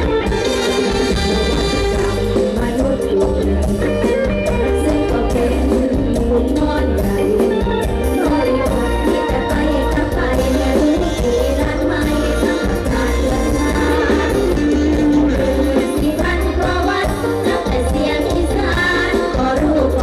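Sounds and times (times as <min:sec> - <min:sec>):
drum kit beat: 0:00.0 - 0:20.0
heavy pulsing bass: 0:00.0 - 0:20.0
live band playing dance music: 0:00.0 - 0:20.0.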